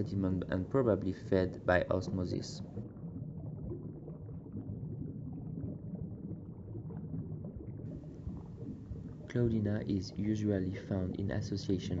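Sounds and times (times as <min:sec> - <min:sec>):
low underwater rumble with bubbling: 0:00.0 - 0:12.0.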